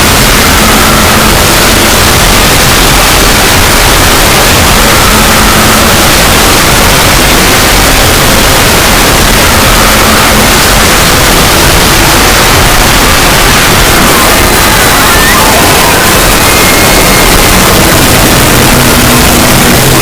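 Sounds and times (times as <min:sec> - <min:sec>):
distorted static noise: 0:00.0 - 0:20.0.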